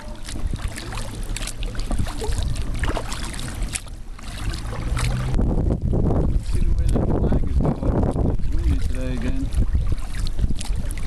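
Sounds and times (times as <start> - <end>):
paddle strokes splashing water: 0.0 - 11.0
wind rumble on microphone: 0.0 - 11.0.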